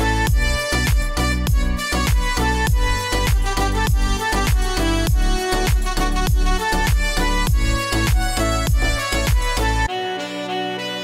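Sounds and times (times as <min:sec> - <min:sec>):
beat-driven music with kick drum: 0:00.0 - 0:10.0
calm melodic music: 0:00.0 - 0:11.0.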